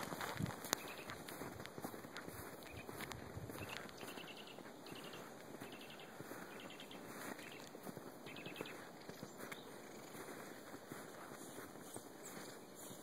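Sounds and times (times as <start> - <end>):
small birds ticking trills: 0.0 - 13.0.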